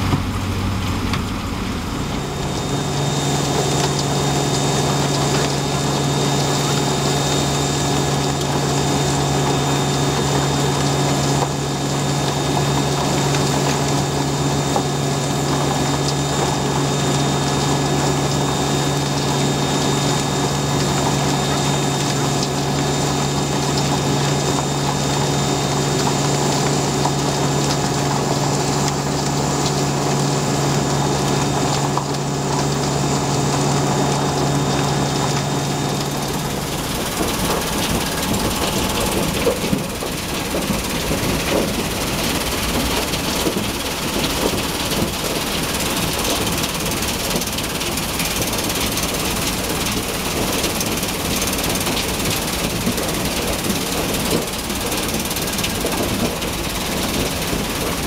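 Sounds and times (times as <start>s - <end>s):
crusher engine hum: 0.0s - 58.0s.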